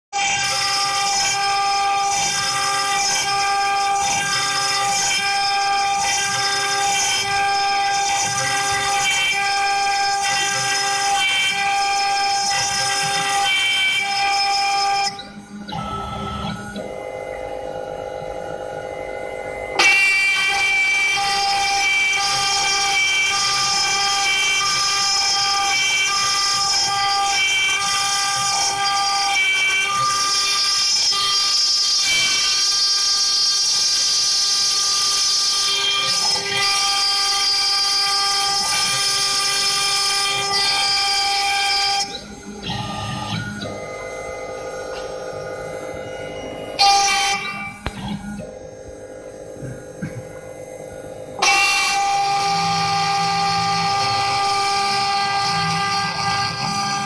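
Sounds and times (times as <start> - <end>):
machine motors whining: 0.2 - 57.0.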